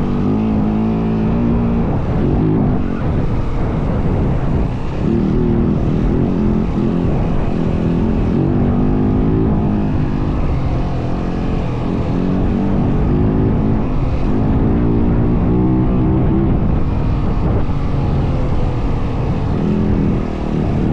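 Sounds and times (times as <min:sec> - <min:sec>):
dirt bike engine running: 0:00.0 - 0:20.9.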